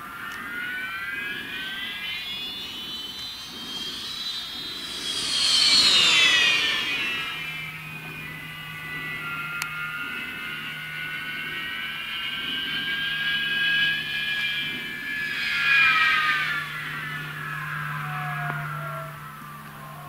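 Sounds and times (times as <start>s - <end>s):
electric motor and propeller whining: 0.0s - 20.0s.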